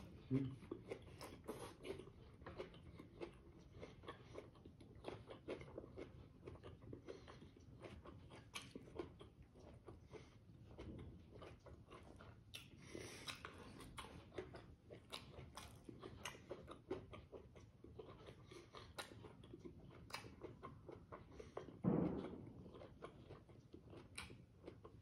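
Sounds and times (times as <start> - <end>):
chewing mouth clicks and smacks: 0.1 - 25.0.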